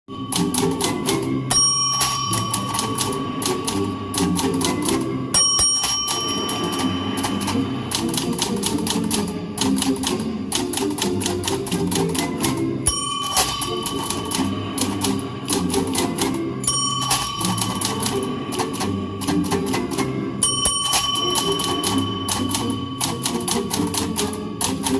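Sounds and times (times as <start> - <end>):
typewriter carriage bell dinging: 0.1 - 9.2, 10.9 - 24.9
musical accompaniment: 0.1 - 24.9
typewriter key clatter: 0.3 - 5.0, 5.6 - 12.3, 12.9 - 24.9.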